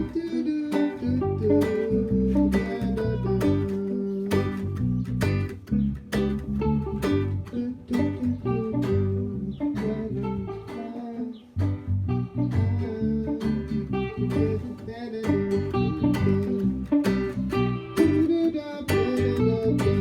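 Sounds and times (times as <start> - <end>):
plucked and strummed guitar music: 0.0 - 20.0.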